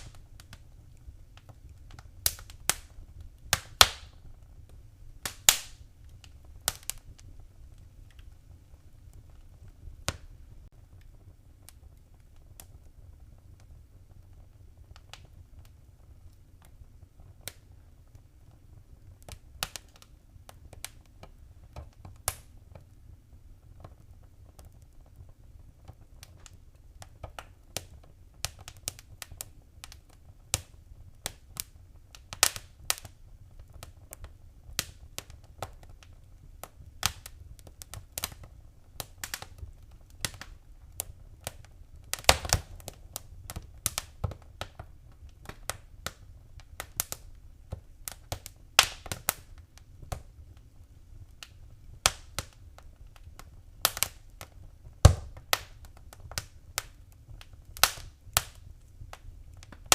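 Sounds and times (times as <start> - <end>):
low rumble of flames: 0.0 - 59.9
wood fire snaps and pops: 0.0 - 59.9.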